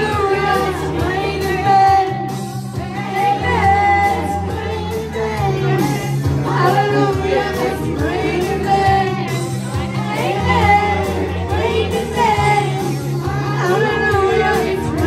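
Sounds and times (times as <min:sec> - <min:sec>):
pop backing track with bass: 0:00.0 - 0:15.0
woman singing into microphone: 0:00.0 - 0:15.0.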